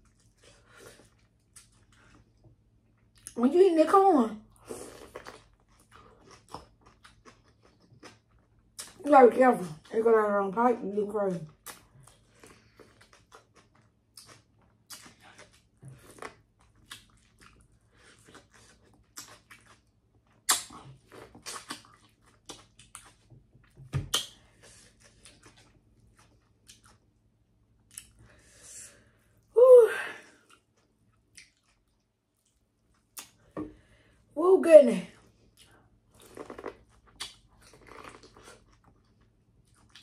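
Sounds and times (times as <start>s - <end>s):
chewing and mouth sounds: 0.0s - 3.4s, 4.6s - 9.0s, 11.3s - 28.2s, 30.4s - 33.6s, 35.2s - 40.0s.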